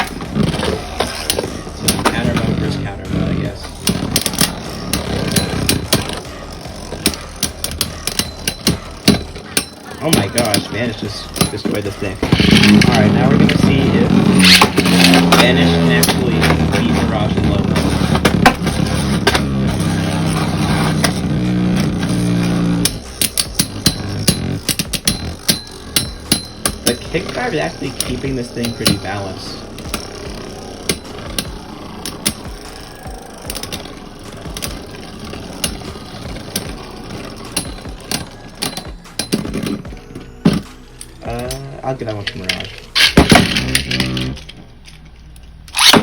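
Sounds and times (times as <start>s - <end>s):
spinning tops clashing: 3.6s - 46.0s.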